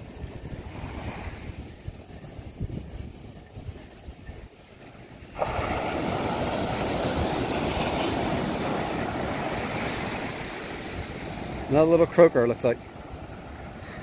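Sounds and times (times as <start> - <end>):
wind rumble: 0.0 - 11.8
waves breaking and washing: 0.0 - 14.0.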